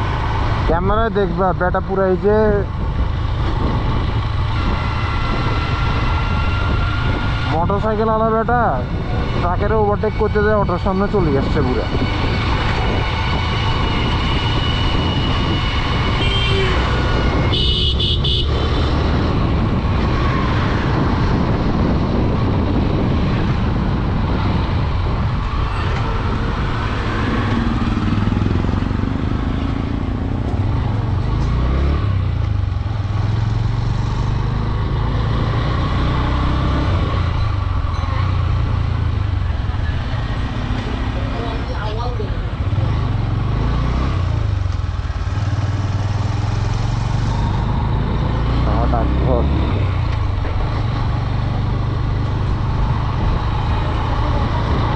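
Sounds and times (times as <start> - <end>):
surrounding traffic: 0.0 - 54.9
wind rumble and road noise: 0.0 - 54.9.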